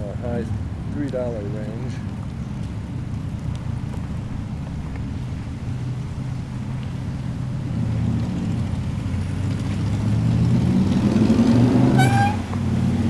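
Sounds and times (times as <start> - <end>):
car engine passing slowly: 0.0 - 13.0.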